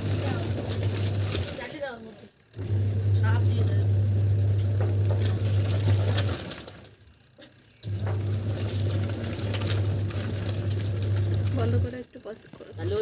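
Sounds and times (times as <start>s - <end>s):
washing machine churning water: 0.0s - 13.0s.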